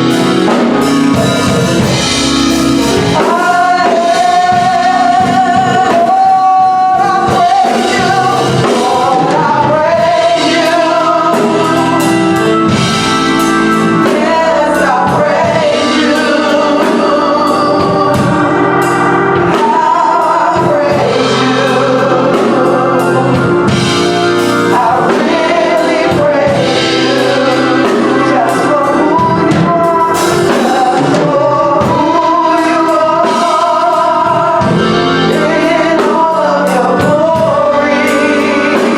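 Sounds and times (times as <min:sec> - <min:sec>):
gospel group singing with instruments: 0:00.0 - 0:38.9.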